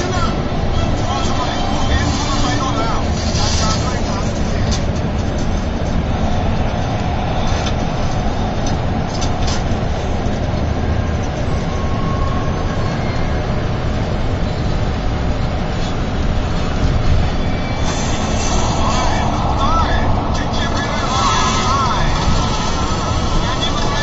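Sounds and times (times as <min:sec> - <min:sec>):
coach engine and road noise: 0:00.0 - 0:24.0.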